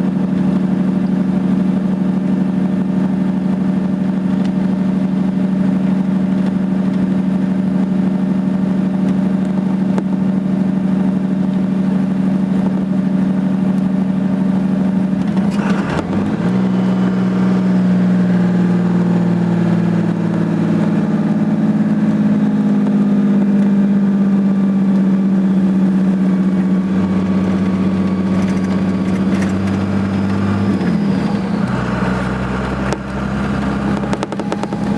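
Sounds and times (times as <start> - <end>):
diesel engine exhaust brake drone: 0.0 - 34.9.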